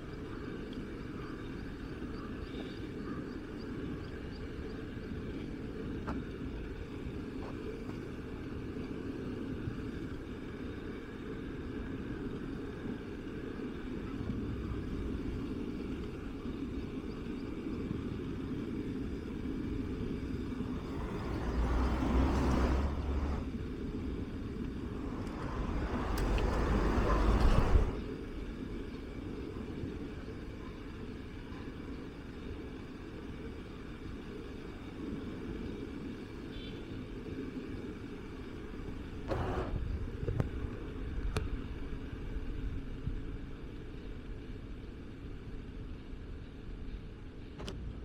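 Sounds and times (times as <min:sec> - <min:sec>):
low rumble of road traffic: 0:00.0 - 0:48.0.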